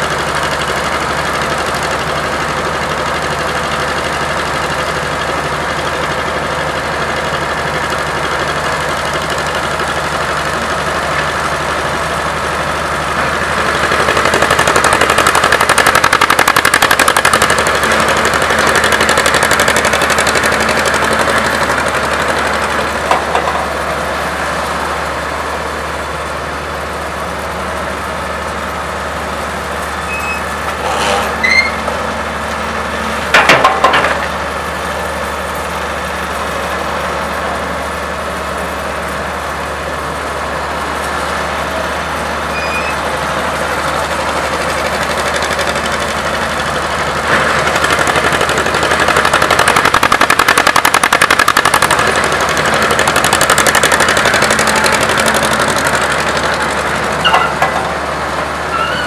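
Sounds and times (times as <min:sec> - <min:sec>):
excavator engines running: 0:00.0 - 0:59.0.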